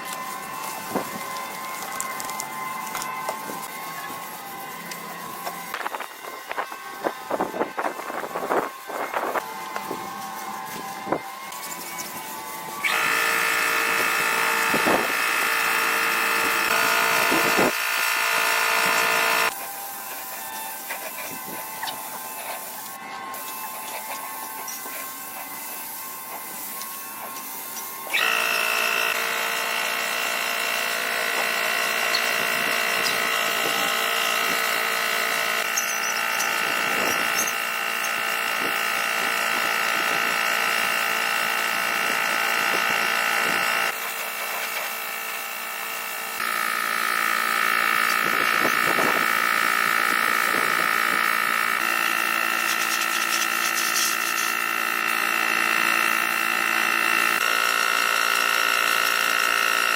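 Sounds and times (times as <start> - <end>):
power tool motor whining: 0.0 - 59.9.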